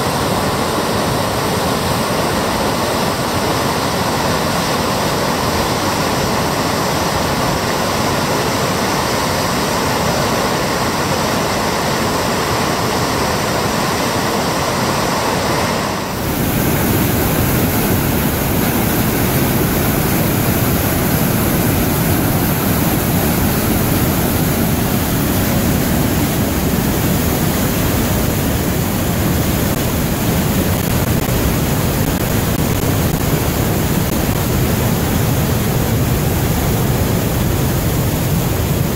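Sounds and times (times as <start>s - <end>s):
whitewater roaring over rapids: 0.0s - 38.9s.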